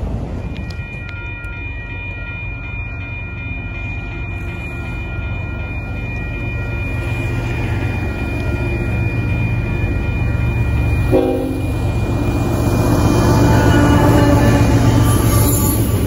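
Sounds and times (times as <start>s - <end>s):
low rumble of approaching train: 0.0s - 16.0s
railroad crossing bell ringing: 0.0s - 16.0s.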